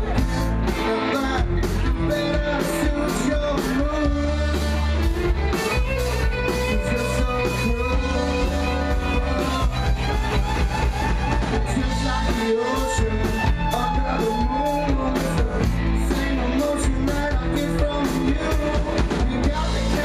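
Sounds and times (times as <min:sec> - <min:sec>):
drum kit beat: 0:00.0 - 0:20.0
electric guitars: 0:00.0 - 0:20.0.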